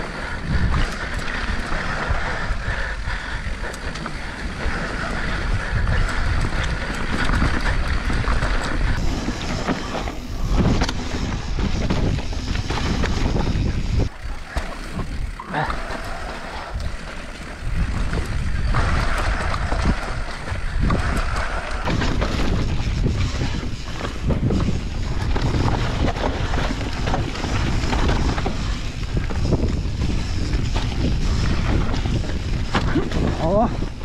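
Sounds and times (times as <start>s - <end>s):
bike rattling and knocking: 0.0s - 34.0s
wind buffeting microphone: 0.0s - 34.0s
tyres rolling over dirt: 3.6s - 34.0s.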